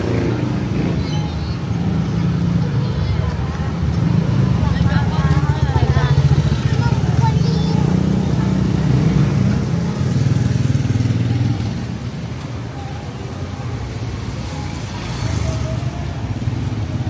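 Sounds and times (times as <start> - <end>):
faint voices: 0.0 - 17.0
vehicle engines passing: 0.0 - 17.0.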